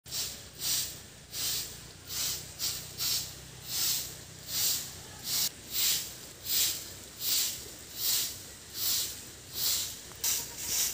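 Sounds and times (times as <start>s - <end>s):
broom sweeping earth: 0.1s - 10.9s.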